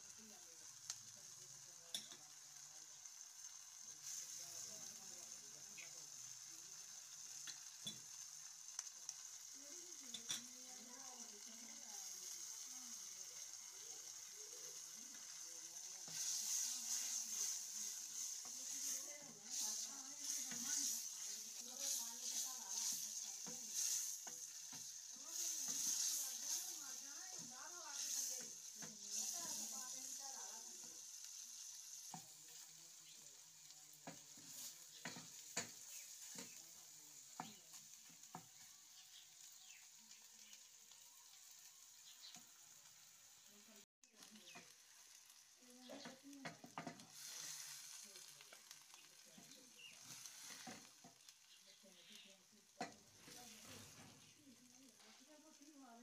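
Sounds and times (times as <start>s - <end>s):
eggs sizzling in a wok: 0.0s - 56.0s
wooden spoon stirring a pan: 3.0s - 56.0s.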